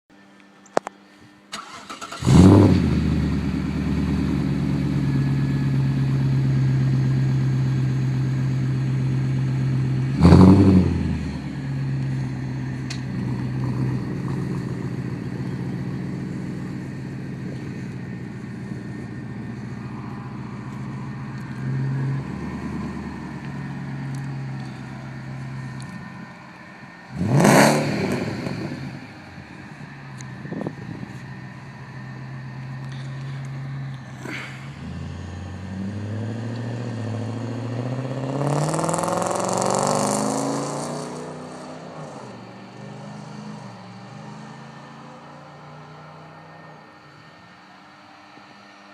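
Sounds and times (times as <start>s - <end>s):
car engine idling and revving: 0.2s - 48.9s.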